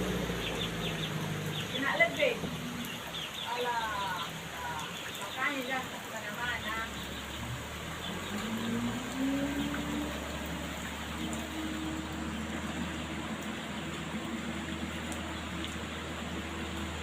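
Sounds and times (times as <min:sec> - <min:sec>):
truck engine running: 0:00.0 - 0:03.4, 0:06.7 - 0:17.0
rain hissing: 0:00.0 - 0:17.0.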